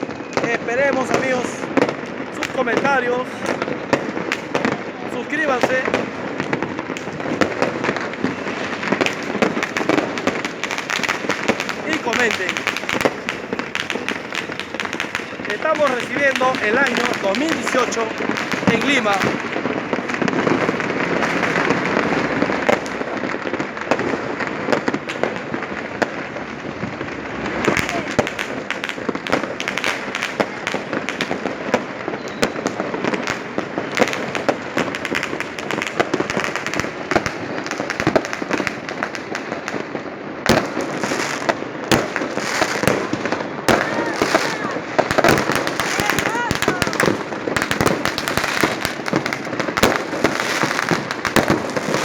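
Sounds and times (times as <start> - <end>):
fireworks bangs and pops: 0.0 - 52.0
steady firework crackle: 0.0 - 52.0.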